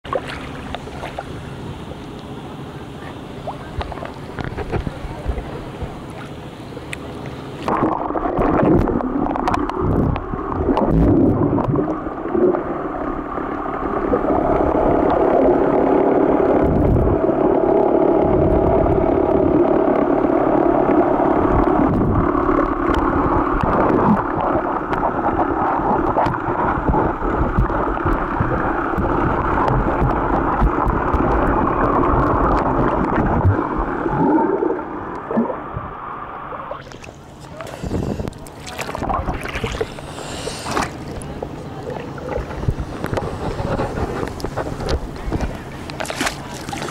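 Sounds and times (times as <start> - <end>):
muffled underwater hum and gurgling: 0.0 - 46.9.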